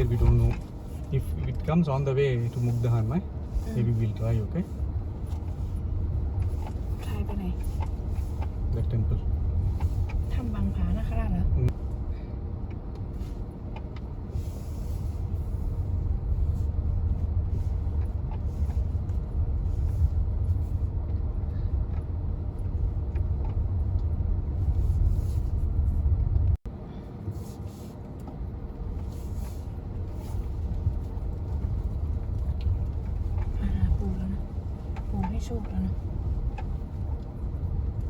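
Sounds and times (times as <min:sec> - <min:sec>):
road and tyre noise: 0:00.0 - 0:38.0.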